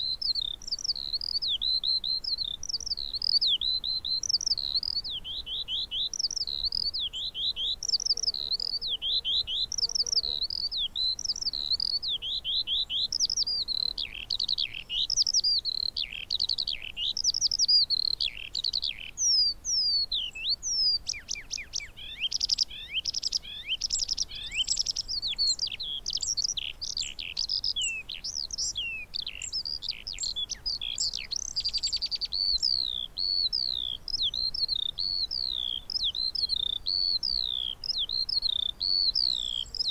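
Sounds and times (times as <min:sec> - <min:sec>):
skylark singing: 0:00.0 - 0:39.9.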